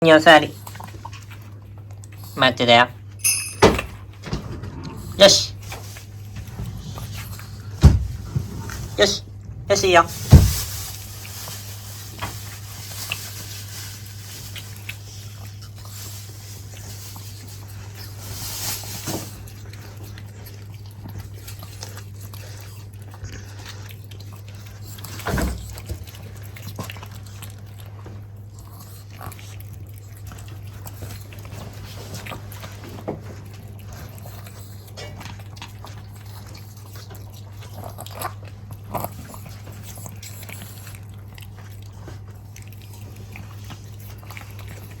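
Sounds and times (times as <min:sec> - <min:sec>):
dog crunching and chewing: 0:00.0 - 0:03.3, 0:04.0 - 0:45.0.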